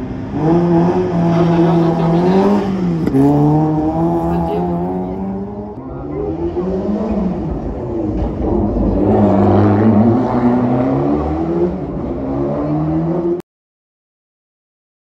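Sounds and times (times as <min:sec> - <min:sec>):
rally car engine accelerating: 0:00.0 - 0:13.4.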